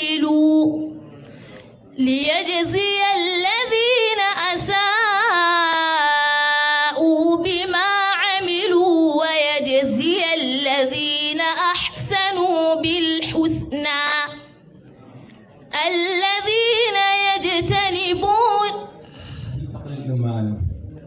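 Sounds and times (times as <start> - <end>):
woman reciting melodically: 0.0 - 1.2, 1.9 - 14.6, 15.7 - 19.4.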